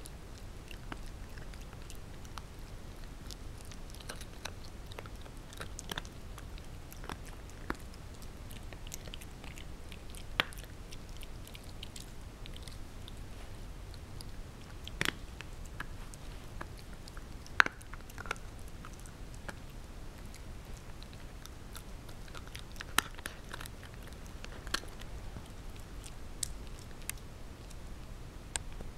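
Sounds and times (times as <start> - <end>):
puppy crunching a treat: 0.0 - 27.9.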